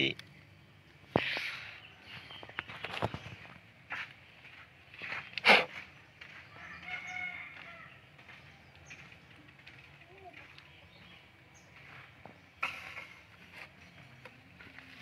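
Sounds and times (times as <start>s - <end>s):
faint bird and animal calls: 0.0s - 15.0s.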